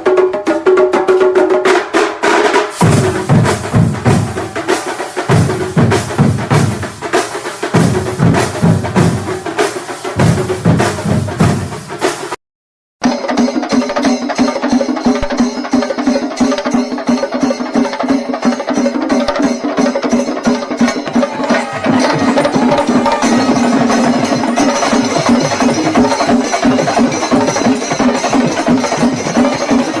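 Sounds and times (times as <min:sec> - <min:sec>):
drums playing fast rhythm: 0:00.0 - 0:12.4, 0:13.0 - 0:30.0
hand cymbals: 0:02.6 - 0:12.4, 0:13.0 - 0:30.0.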